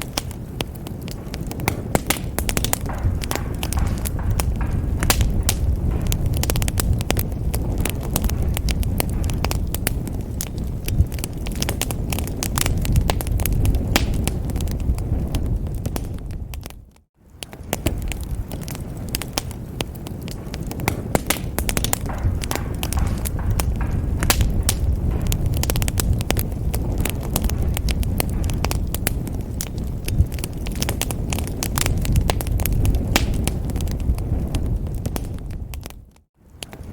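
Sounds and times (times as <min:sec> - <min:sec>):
low rumble of flames: 0:00.0 - 0:36.9
wood fire crackling: 0:00.0 - 0:36.9.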